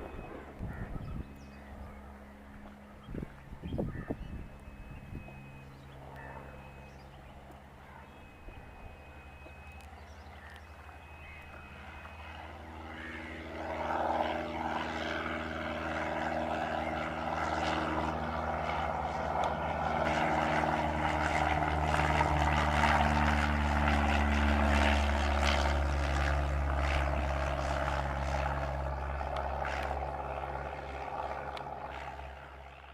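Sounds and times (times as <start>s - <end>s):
light aircraft engine and propeller: 0.0s - 32.9s.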